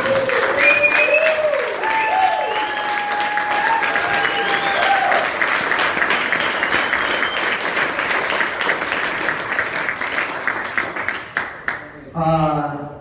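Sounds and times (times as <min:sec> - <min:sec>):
audience clapping: 0:00.0 - 0:12.1.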